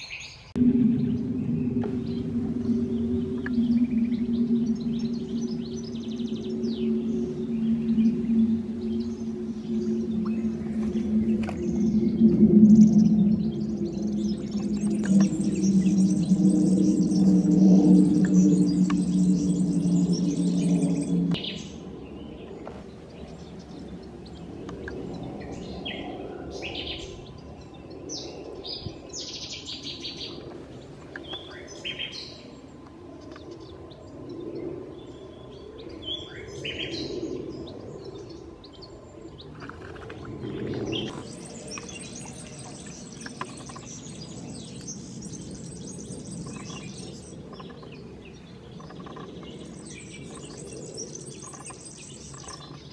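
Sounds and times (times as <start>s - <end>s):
birds chirping and singing: 0.0s - 30.4s, 31.2s - 52.9s.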